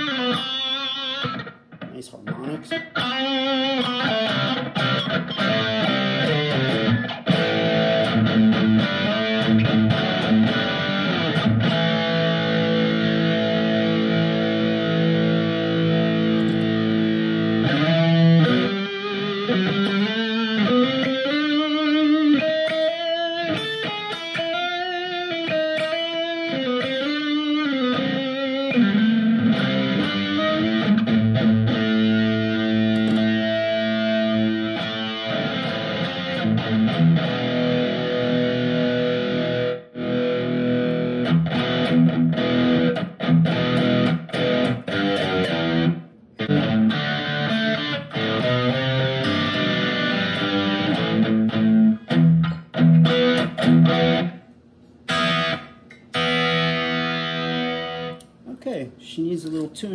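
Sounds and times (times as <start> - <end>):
distorted electric guitar: 0.0 - 58.4.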